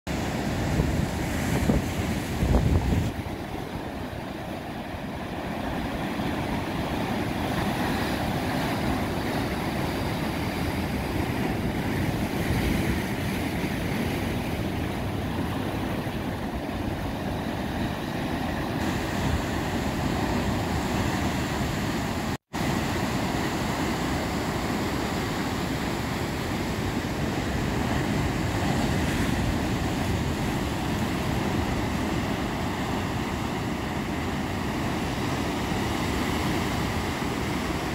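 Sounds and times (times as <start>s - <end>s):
surf breaking over rocks: 0.1s - 37.9s.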